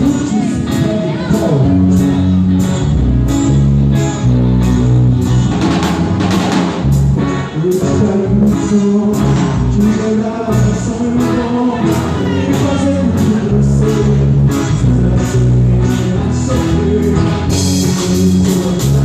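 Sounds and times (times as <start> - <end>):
bass: 0.0 - 19.0
drum kit steady beat: 0.0 - 19.0
guitar: 0.0 - 19.0.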